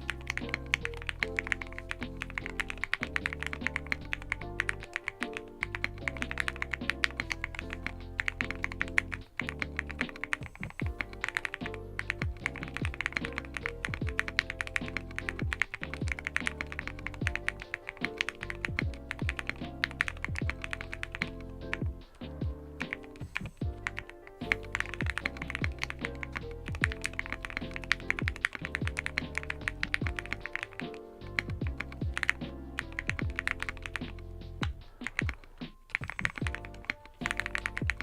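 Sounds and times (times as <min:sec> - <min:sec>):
fast mechanical keyboard typing: 0:00.0 - 0:21.9, 0:22.8 - 0:34.2, 0:35.0 - 0:38.0
background music: 0:00.0 - 0:38.0.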